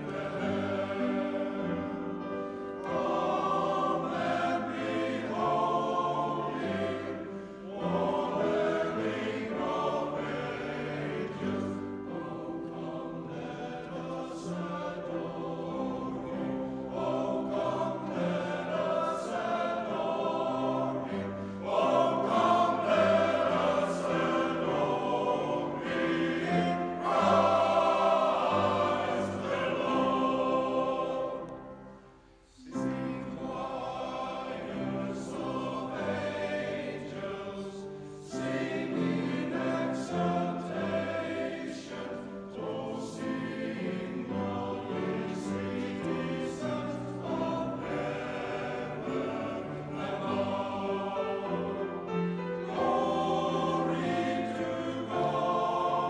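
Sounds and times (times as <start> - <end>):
male voice choir singing: 0.0 - 31.8, 32.6 - 56.0
piano accompaniment: 0.0 - 56.0.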